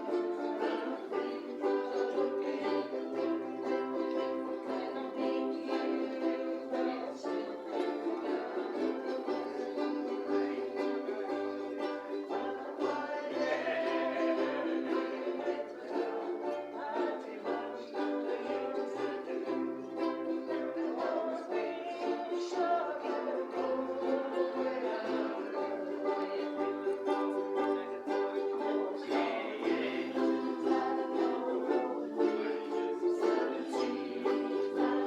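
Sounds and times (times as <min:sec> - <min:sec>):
ukuleles strumming chords: 0:00.0 - 0:35.0.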